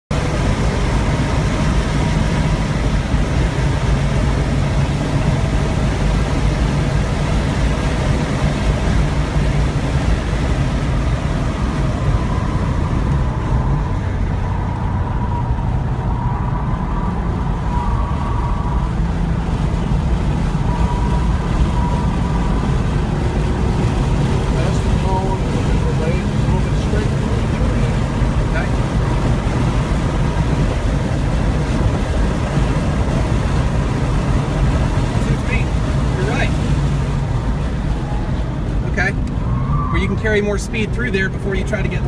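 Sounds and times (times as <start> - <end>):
wind and road rush: 0.0 - 42.0
car engine running hard: 0.1 - 42.0.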